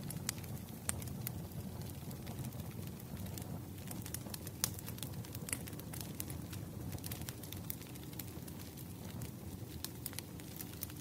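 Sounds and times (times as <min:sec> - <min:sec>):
faint fire crackles: 0:00.0 - 0:11.0
fireplace fire rumbling: 0:00.0 - 0:11.0.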